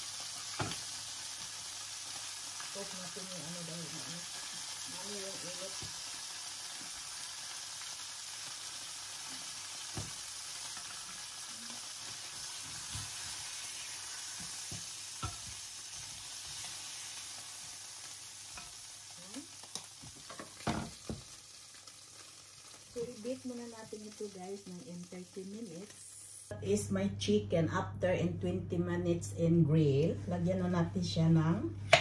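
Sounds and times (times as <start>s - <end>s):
chicken sizzling in hot oil: 0.0s - 26.5s.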